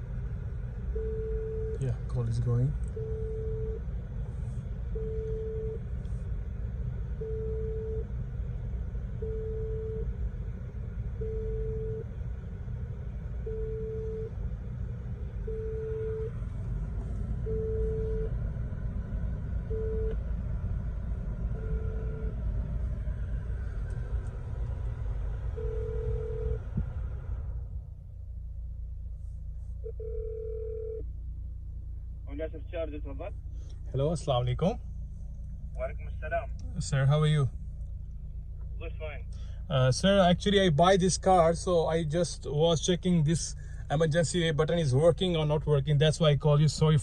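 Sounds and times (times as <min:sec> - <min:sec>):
engine idling rumble: 0:00.0 - 0:47.0.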